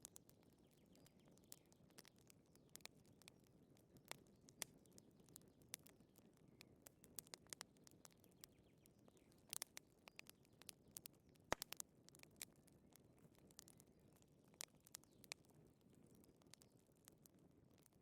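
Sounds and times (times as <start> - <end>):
fire pops and snaps: 0.0 - 18.0.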